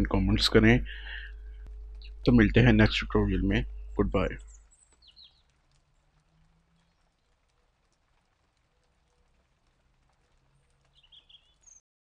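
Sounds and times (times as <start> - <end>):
low hum: 0.0 - 10.9
faint background hiss: 0.0 - 11.8.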